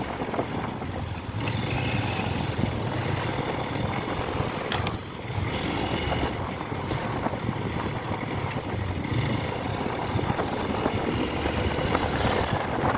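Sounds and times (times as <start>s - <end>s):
motorcycle engine: 0.0s - 12.9s
wind buffeting microphone: 0.0s - 12.9s.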